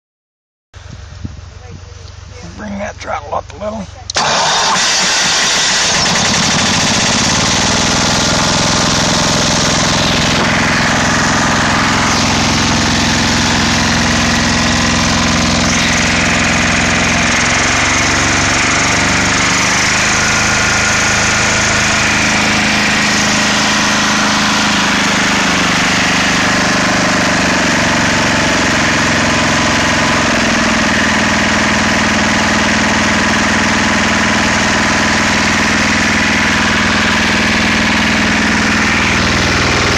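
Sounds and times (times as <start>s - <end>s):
diesel engine running: 0.8s - 39.9s.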